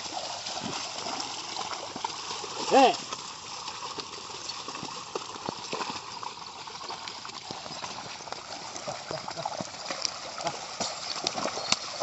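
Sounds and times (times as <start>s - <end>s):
hooves splashing through mud: 0.0s - 12.0s
wash of water and mud: 0.0s - 12.0s.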